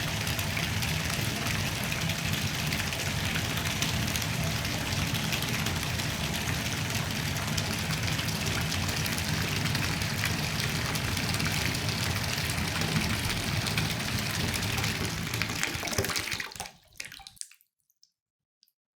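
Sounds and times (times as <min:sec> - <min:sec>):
tap water filling bathtub: 0:00.0 - 0:17.6.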